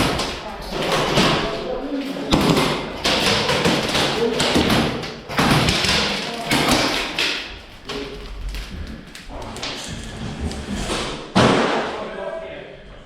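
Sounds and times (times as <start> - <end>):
voices in background: 0.0 - 10.5.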